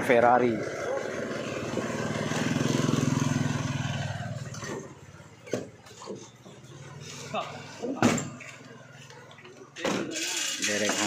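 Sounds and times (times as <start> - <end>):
vehicle engine humming: 0.0 - 9.7.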